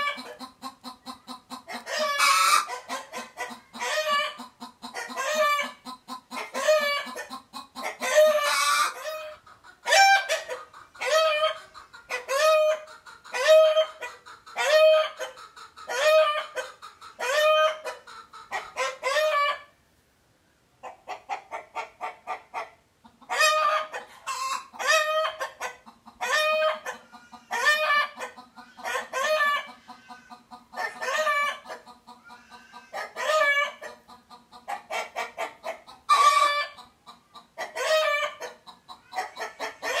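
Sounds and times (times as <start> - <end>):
chicken calling: 0.0 - 19.8, 20.8 - 40.0.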